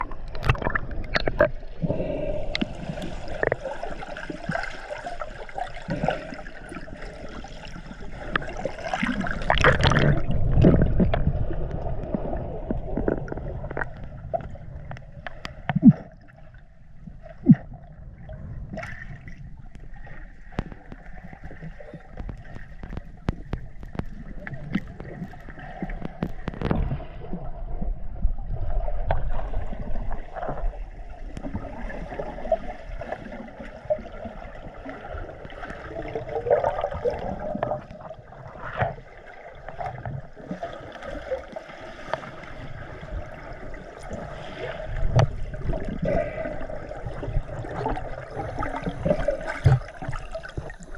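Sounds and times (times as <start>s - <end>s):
water gurgling and splashing: 0.0s - 50.9s.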